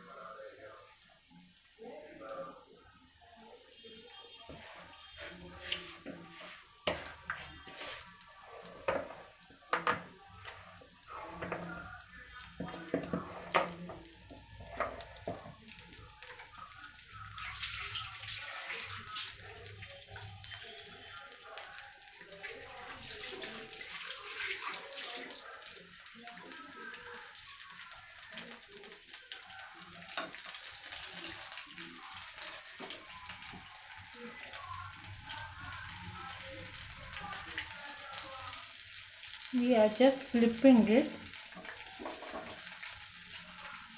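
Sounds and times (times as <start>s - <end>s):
batter deep-frying in hot oil: 0.0s - 43.9s.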